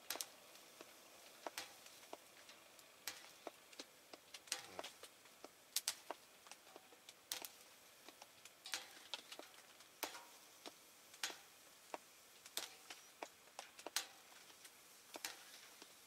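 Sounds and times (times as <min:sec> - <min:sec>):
campfire crackling and popping: 0:00.0 - 0:16.0
faint hiss: 0:00.0 - 0:16.0.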